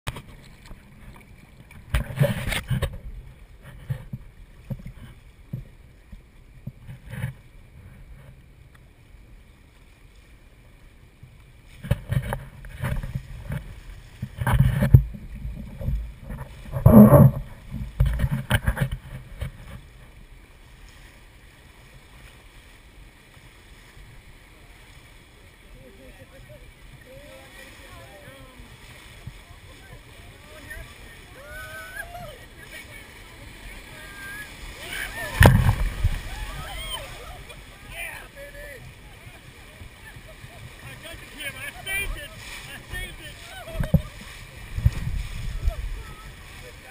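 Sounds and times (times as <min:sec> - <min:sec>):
paddles splashing against raft: 0:00.1 - 0:46.9.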